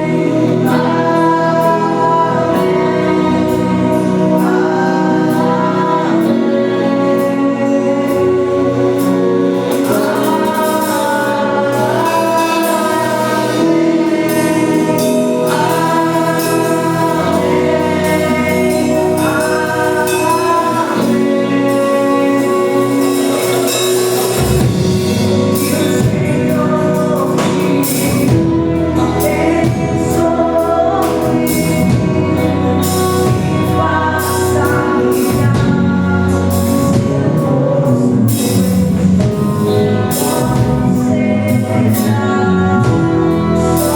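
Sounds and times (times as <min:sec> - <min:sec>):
gospel choir singing with instruments: 0:00.0 - 0:43.9.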